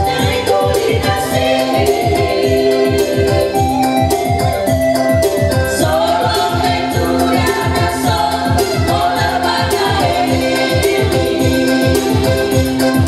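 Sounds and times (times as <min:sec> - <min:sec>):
women singing gospel song: 0:00.0 - 0:04.3, 0:05.7 - 0:12.8
keyboard backing with beat: 0:00.0 - 0:13.0.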